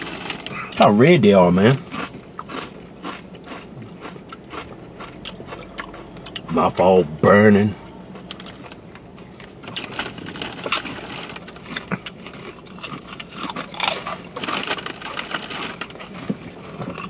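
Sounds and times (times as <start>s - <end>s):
chips being chewed: 0.0s - 6.9s, 8.2s - 17.0s.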